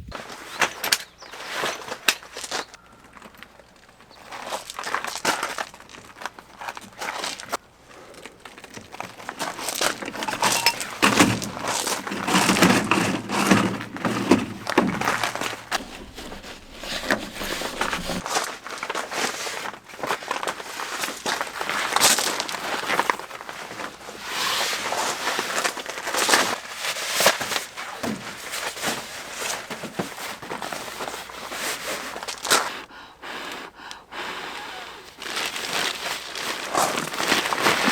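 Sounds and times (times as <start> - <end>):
crinkling and rustling handling: 0.1 - 32.8, 35.0 - 37.9.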